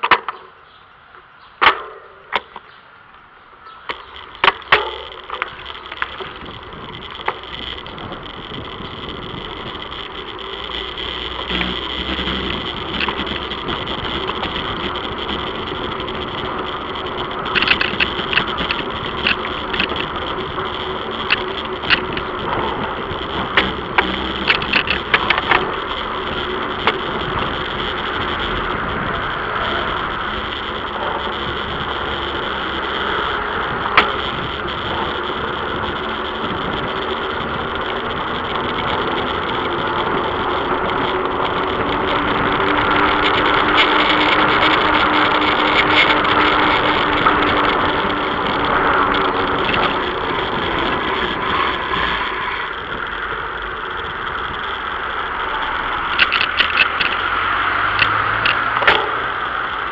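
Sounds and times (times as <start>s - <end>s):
bike clicks and rattles: 0.0s - 59.9s
wind and road noise: 0.0s - 59.9s.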